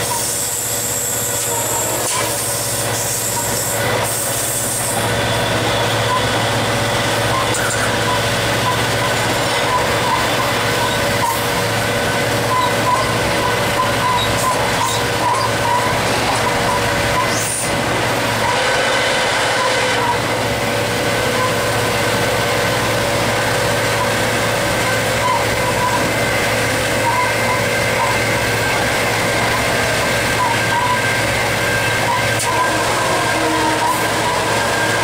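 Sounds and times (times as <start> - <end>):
locomotive engine drone: 0.0 - 35.0
track noise: 0.8 - 35.0.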